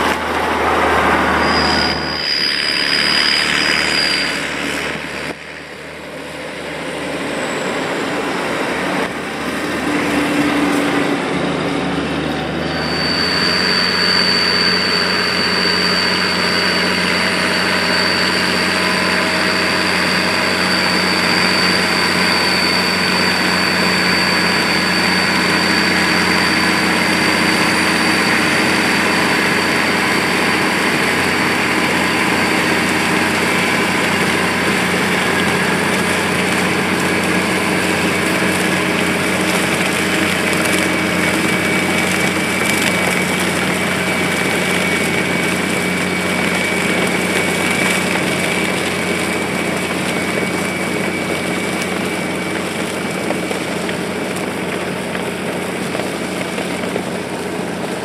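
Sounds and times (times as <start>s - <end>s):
high whine: 0.0s - 58.0s
tractor diesel engine running: 0.0s - 58.0s.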